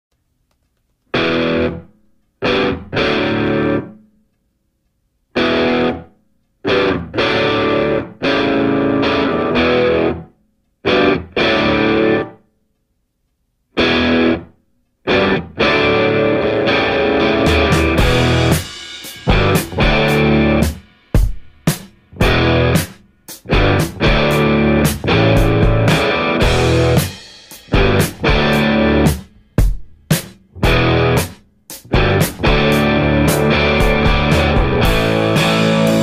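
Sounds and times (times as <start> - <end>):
distorted electric guitar riff: 1.2 - 4.0, 5.4 - 12.4, 13.8 - 29.7, 30.6 - 36.0.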